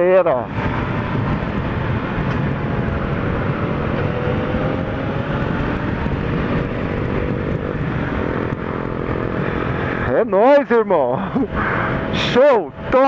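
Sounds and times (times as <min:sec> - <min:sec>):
motorcycle engine cruising: 0:00.0 - 0:13.0
wind rush over microphone: 0:00.0 - 0:13.0.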